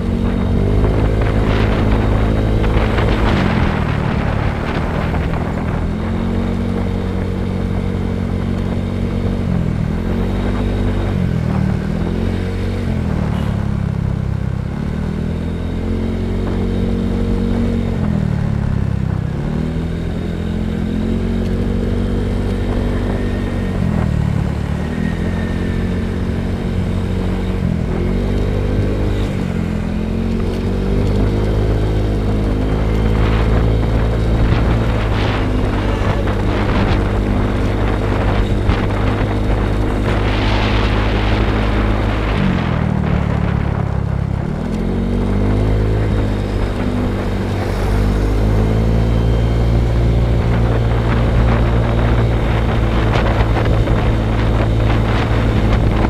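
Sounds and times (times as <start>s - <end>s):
crackling wind buffeting: 0.0s - 56.0s
low wind rumble on microphone: 0.0s - 56.0s
motorcycle engine revving: 0.0s - 56.0s.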